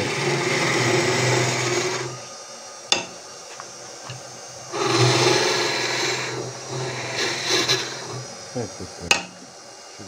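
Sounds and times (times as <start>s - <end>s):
lathe tool cutting wood: 0.0s - 10.0s.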